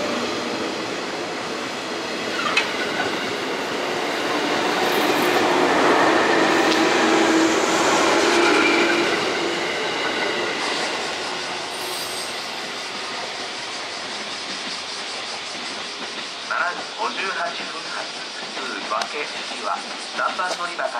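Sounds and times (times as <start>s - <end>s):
train wheels running on rails: 0.0s - 20.9s.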